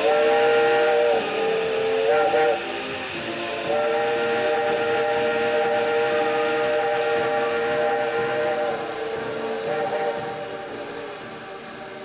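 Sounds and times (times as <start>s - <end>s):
steam hissing: 0.0s - 12.0s
steam locomotive whistle: 0.0s - 12.0s.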